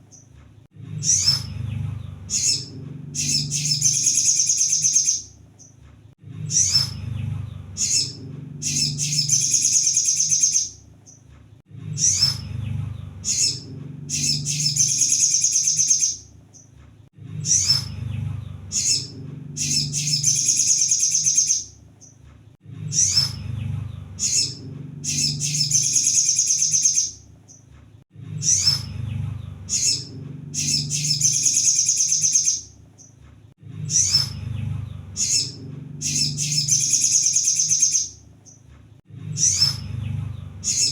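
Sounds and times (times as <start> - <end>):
bird song with chips and trill: 0.0 - 0.4, 1.0 - 5.8, 6.5 - 11.3, 12.0 - 16.8, 17.4 - 22.3, 22.9 - 27.7, 28.4 - 33.2, 33.9 - 38.7, 39.4 - 40.9.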